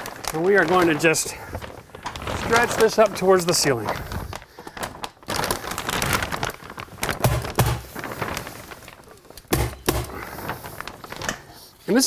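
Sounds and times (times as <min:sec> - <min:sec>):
plastic sheeting crinkling: 0:00.0 - 0:12.0.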